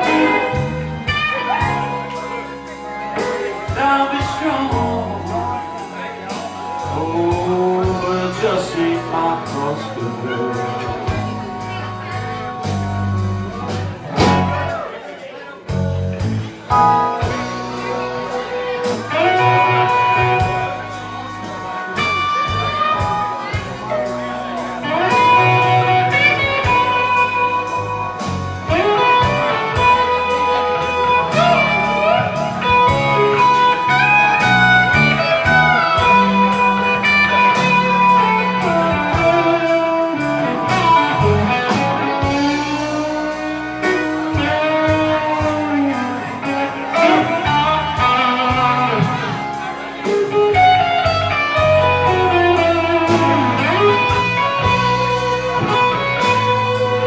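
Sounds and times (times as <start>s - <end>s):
electric guitar lead bending notes: 0.0s - 15.0s, 15.7s - 57.0s
blues band playing: 0.0s - 57.0s.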